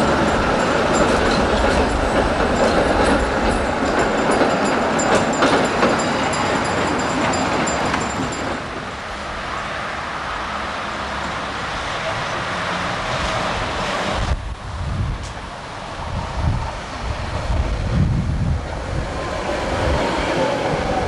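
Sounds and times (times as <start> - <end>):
street noise: 0.0 - 21.0
tram wheels rumbling on rails: 0.0 - 21.0.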